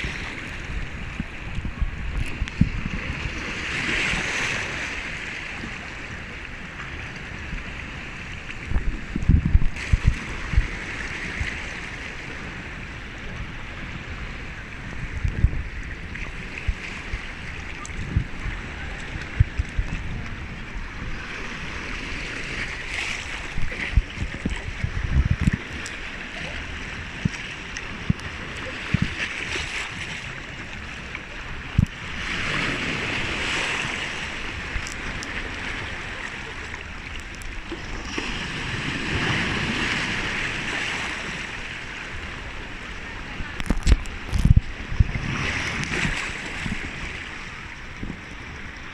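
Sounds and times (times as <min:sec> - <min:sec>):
sea waves washing ashore: 0:00.0 - 0:48.9
wind buffeting microphone: 0:00.0 - 0:48.9.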